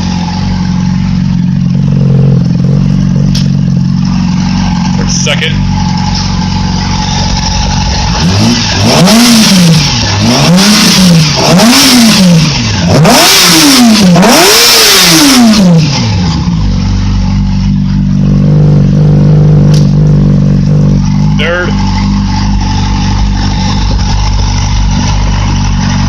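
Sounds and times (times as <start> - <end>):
motorcycle engine idling: 0.0 - 12.8, 15.8 - 26.0
motorcycle engine revving: 0.0 - 26.0.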